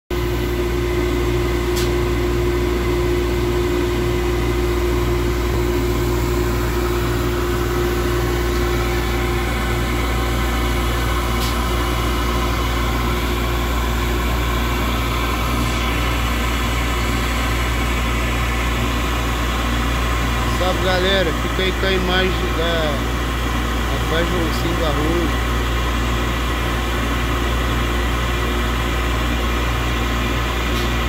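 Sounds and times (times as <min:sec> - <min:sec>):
industrial machinery drone: 0:00.1 - 0:31.0.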